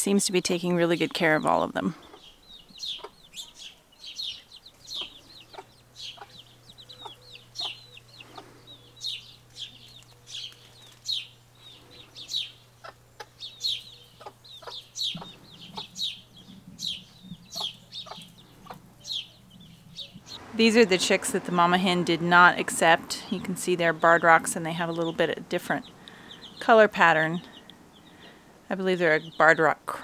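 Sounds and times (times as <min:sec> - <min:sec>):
baby chicks peeping: 0:00.4 - 0:30.0.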